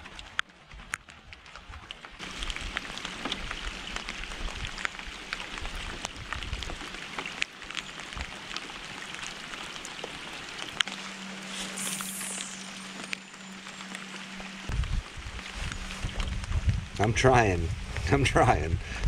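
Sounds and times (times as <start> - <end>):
rain falling on water: 0.0 - 19.0.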